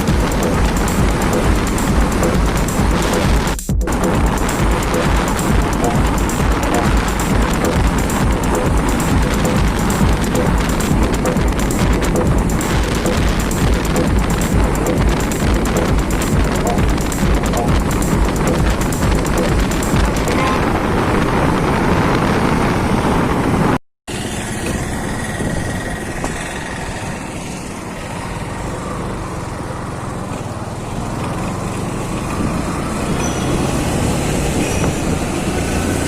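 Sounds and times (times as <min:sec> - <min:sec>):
motorcycle engine: 0:00.0 - 0:23.3, 0:24.1 - 0:36.0
road noise: 0:00.0 - 0:36.0.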